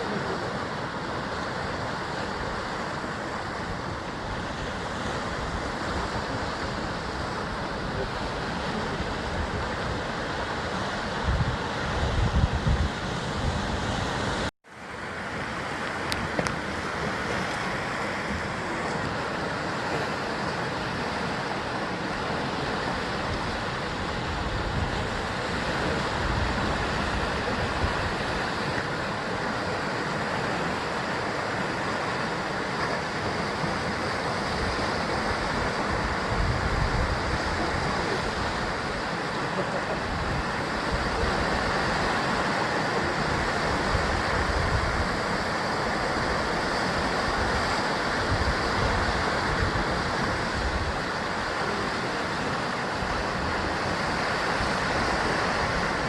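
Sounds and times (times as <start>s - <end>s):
low rumbles of surf: 0.0s - 56.0s
waves breaking on rocks: 0.0s - 56.0s.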